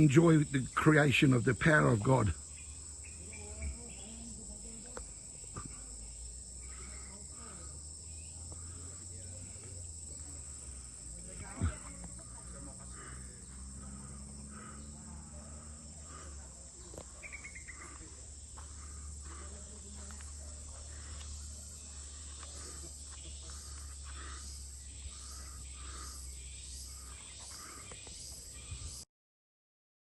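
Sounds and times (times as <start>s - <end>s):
high insect trill: 0.0s - 29.1s
insects droning: 0.0s - 29.1s
pulsing insect call: 0.0s - 29.1s.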